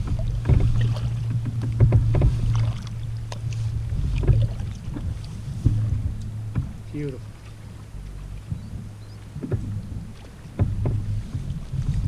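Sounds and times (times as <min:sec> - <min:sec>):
steady low rumble: 0:00.0 - 0:12.0
water splashing against kayak: 0:00.0 - 0:12.0.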